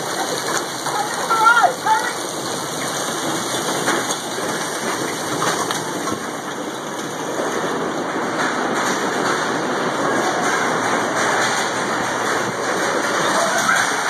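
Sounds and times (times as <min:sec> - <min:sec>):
hail and heavy rain pelting: 0:00.0 - 0:14.0.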